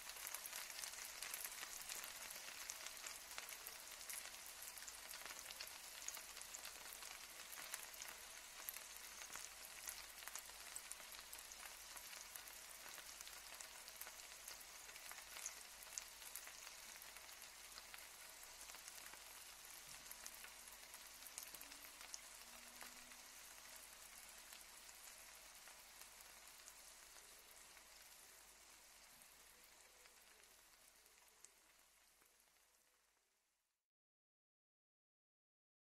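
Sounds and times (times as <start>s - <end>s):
food frying with crackling pops: 0.0s - 33.7s.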